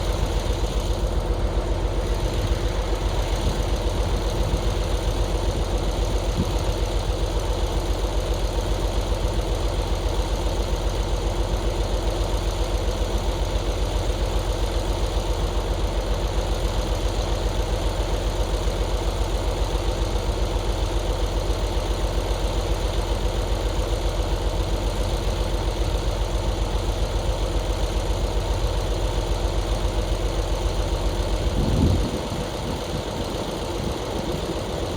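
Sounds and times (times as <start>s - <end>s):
large engine idling: 0.0s - 34.9s.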